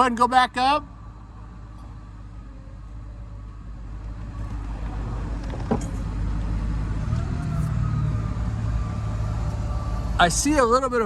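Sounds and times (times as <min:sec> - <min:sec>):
powered landing gear droning: 0:01.0 - 0:11.0.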